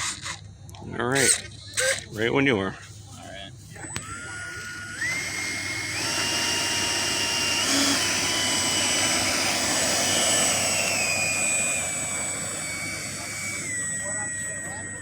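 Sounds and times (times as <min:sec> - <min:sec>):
electric ducted fan whine: 0:01.8 - 0:15.0.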